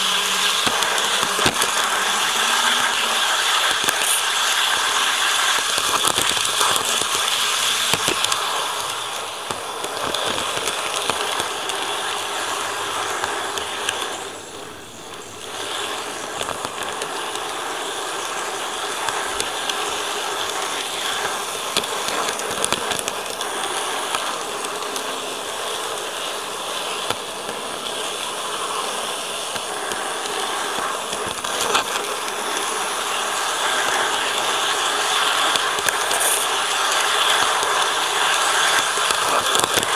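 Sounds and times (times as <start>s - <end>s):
model train whirring rattle: 0.0s - 39.9s.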